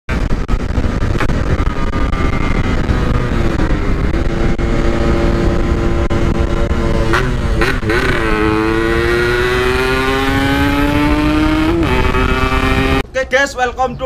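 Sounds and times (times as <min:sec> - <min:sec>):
two-stroke motorcycle engine: 0:00.1 - 0:13.0
wind rumble on microphone: 0:00.1 - 0:13.0.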